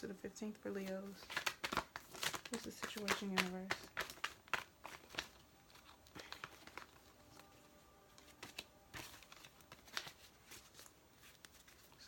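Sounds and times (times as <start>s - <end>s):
cards being shuffled: 0.7s - 12.0s.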